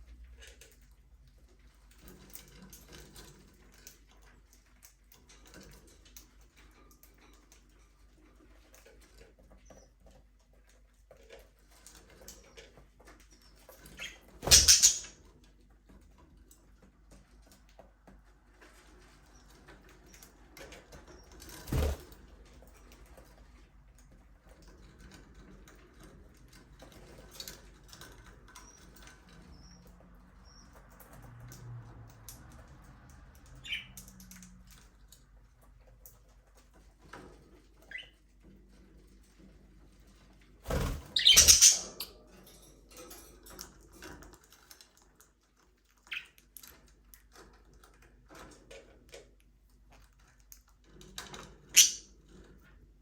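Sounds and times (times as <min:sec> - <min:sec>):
faint scratching and pecking: 0:00.0 - 0:53.0.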